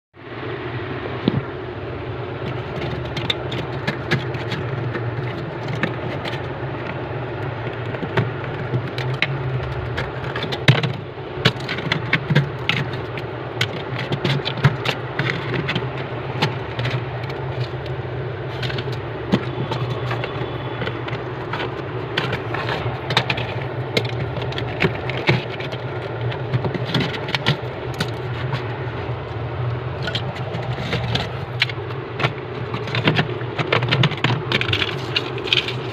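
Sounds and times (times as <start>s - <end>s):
freezer low hum: 0.2s - 35.9s
ice scraping and cracking: 2.4s - 35.9s.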